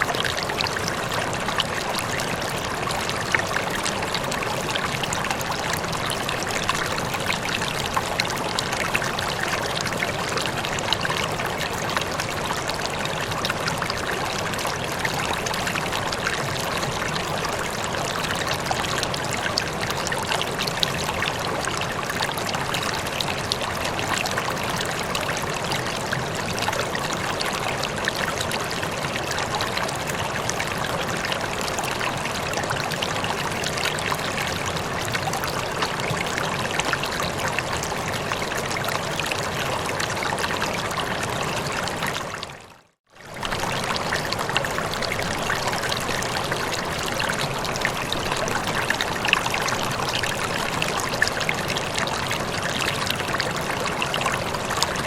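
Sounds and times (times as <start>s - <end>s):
water flowing in a stream: 0.0s - 55.0s.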